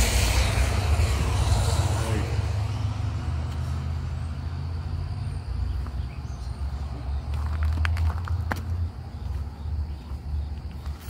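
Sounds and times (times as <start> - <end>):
low engine rumble: 0.0 - 11.0
tyre and road noise: 0.0 - 11.0.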